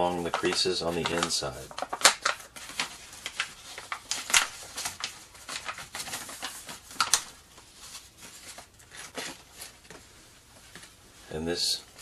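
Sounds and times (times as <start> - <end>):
paper crinkling: 0.0 - 11.0.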